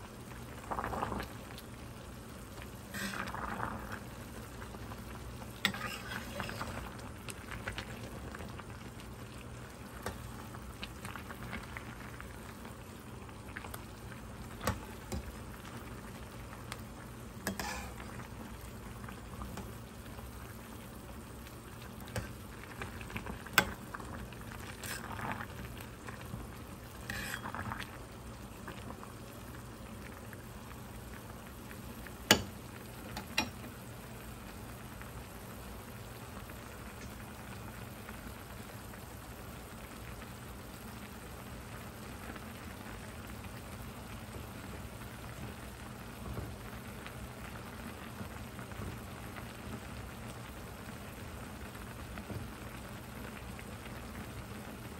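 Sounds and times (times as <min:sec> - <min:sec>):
soup bubbling in a pot: 0:00.0 - 0:54.9.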